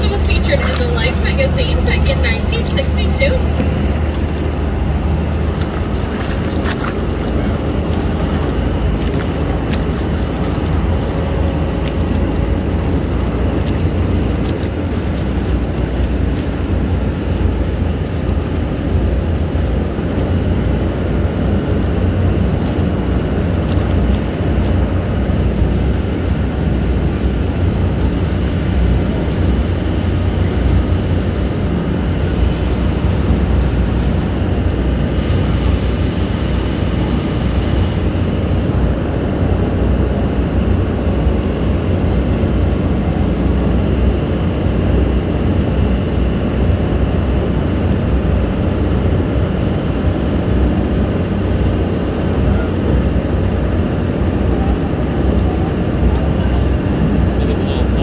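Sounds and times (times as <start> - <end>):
boat engine droning: 0.0 - 58.0
faint engine whine: 0.0 - 58.0.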